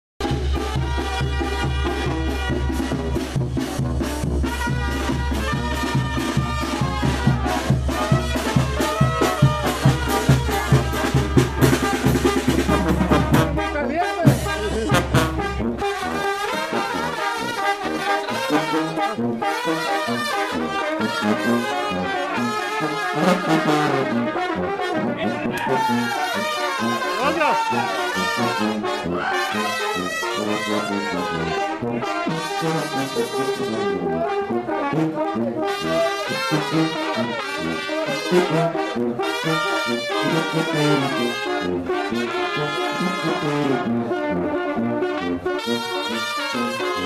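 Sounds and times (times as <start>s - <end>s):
brass band music: 0.2s - 47.0s.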